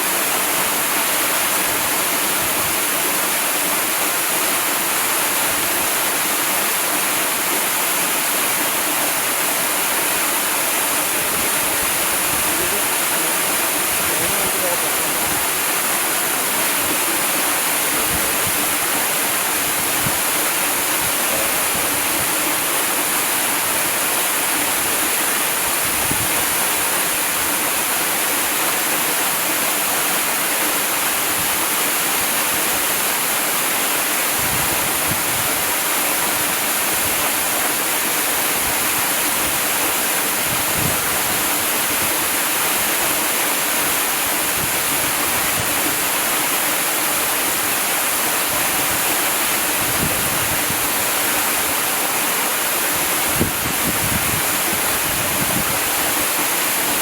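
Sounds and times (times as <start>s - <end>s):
waterfall pouring and splashing: 0.0s - 57.0s.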